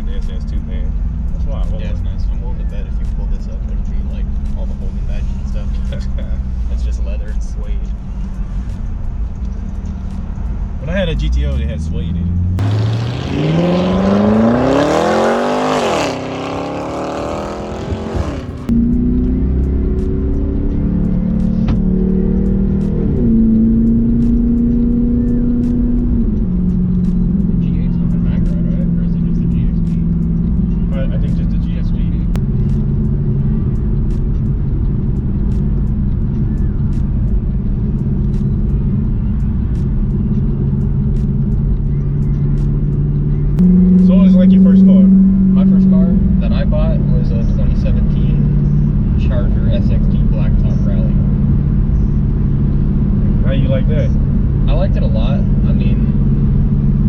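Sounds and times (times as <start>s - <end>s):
car engine accelerating: 0.0s - 57.0s
low road rumble: 0.0s - 57.0s.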